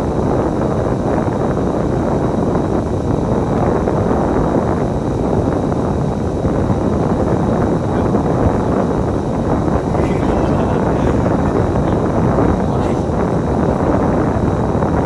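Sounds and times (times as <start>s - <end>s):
bus engine and road rumble: 0.0s - 15.0s
wind noise: 0.0s - 15.0s.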